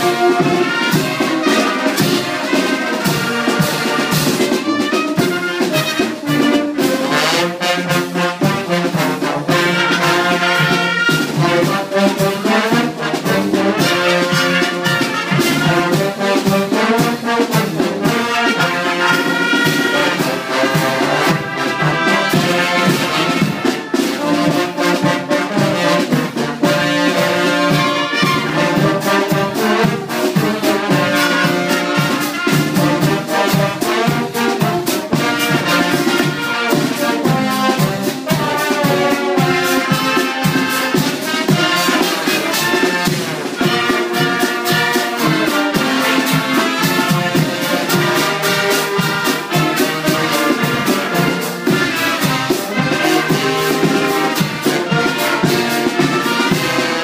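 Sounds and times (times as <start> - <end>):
percussion beat: 0.0 - 57.0
trumpets and trombones playing: 0.0 - 57.0.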